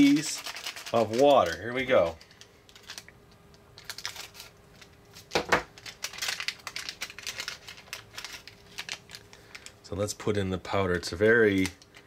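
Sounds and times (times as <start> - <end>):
paper packet crinkling: 0.0 - 3.1, 3.8 - 12.0.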